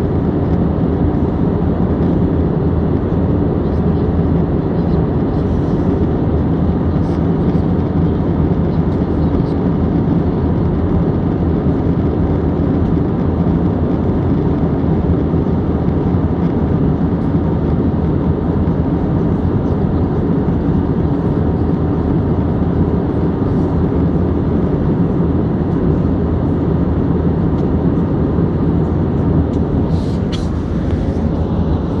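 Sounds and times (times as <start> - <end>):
airliner cabin hum: 0.0 - 32.0.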